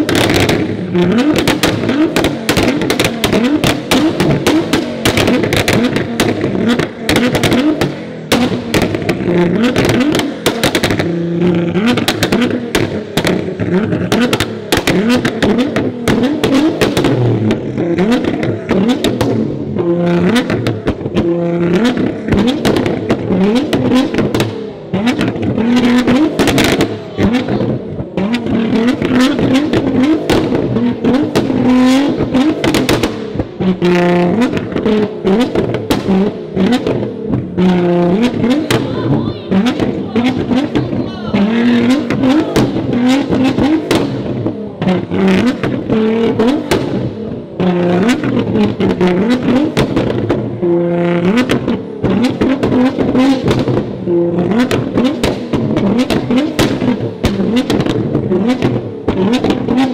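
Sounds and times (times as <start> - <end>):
car engine revving hard: 0.0 - 59.9
exhaust pops and bangs: 0.0 - 59.9.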